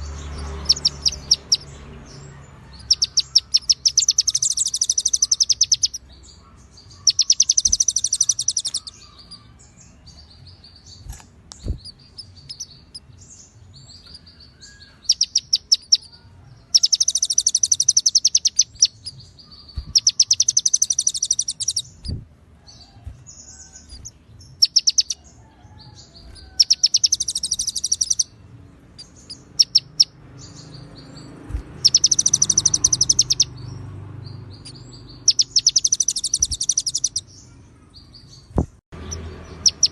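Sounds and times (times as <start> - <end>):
sunbird chattering trills: 0.0 - 9.4, 10.9 - 22.2, 23.6 - 25.3, 26.1 - 28.3, 28.9 - 33.8, 34.5 - 37.6, 38.4 - 39.9.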